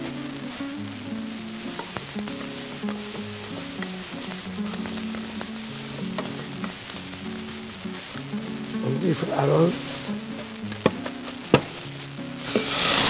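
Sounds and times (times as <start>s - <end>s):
music with plucked melody: 0.0s - 13.0s
noodles sizzling in pot: 0.0s - 13.0s.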